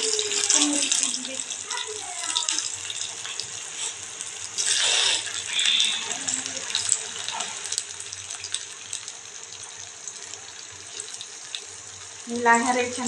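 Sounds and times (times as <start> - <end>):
potatoes deep-frying in oil: 0.0 - 13.0.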